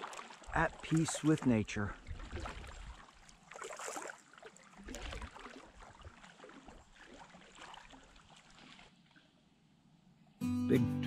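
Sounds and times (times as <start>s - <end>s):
water trickling off blades: 0.0s - 9.3s
kayak paddles dipping in water: 0.0s - 9.7s.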